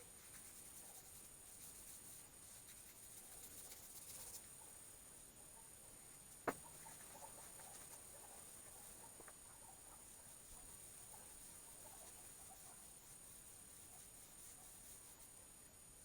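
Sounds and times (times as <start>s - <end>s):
faint high-pitched hiss: 0.0s - 16.0s.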